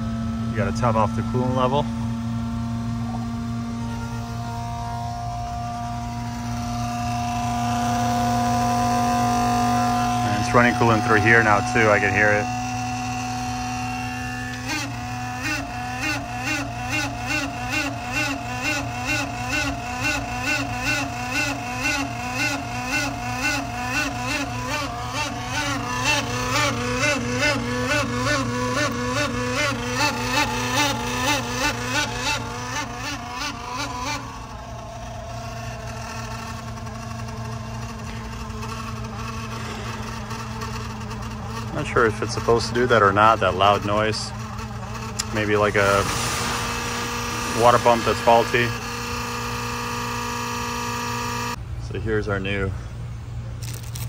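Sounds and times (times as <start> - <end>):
rhythmic warbling whine: 0.0 - 51.6
coolant pump hum: 0.0 - 54.0
coolant flowing: 5.4 - 51.4.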